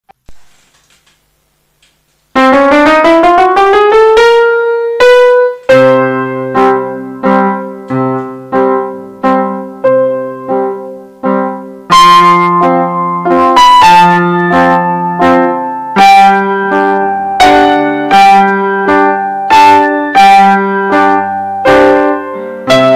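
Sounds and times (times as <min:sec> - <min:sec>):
digital piano waltz: 0:02.4 - 0:22.9.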